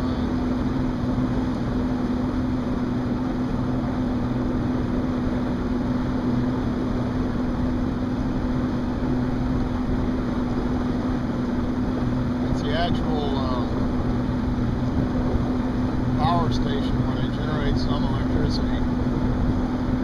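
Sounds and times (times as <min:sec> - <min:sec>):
motorboat engine humming: 0:00.0 - 0:20.0.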